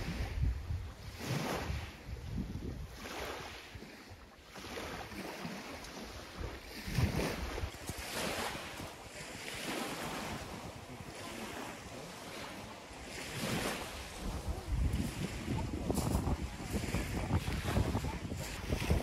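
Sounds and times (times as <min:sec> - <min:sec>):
small waves lapping on pebbles: 0:00.0 - 0:19.0
wind on microphone: 0:00.0 - 0:19.0.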